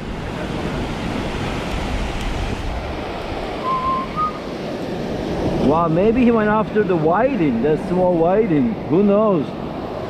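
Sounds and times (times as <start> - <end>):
ocean surf washing up beach: 0.0 - 10.0
wind buffeting microphone: 0.0 - 10.0.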